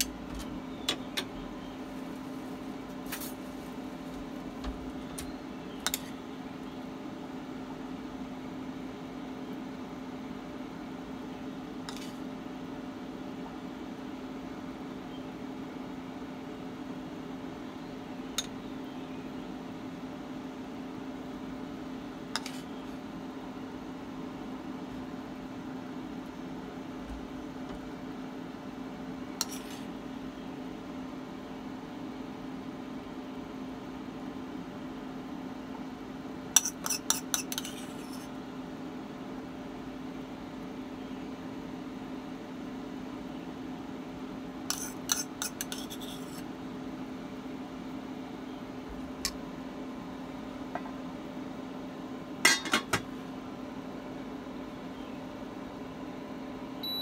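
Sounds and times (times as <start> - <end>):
induction cooktop hum: 0.0 - 57.0.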